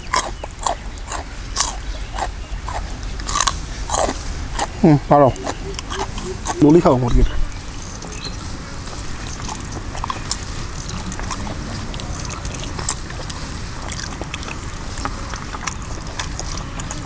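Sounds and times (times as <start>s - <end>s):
steady low rumble: 0.0s - 17.0s
wet eating sounds: 0.0s - 17.0s.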